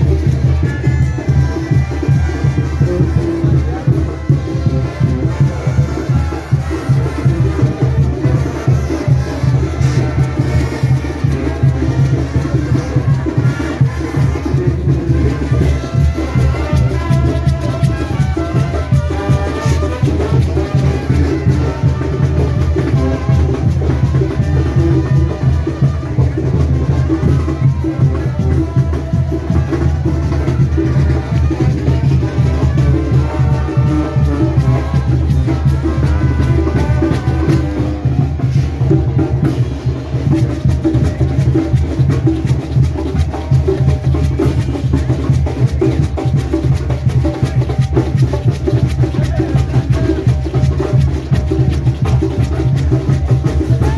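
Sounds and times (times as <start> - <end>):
brass horns: 0.0 - 53.9
steady drum beat: 0.0 - 53.9.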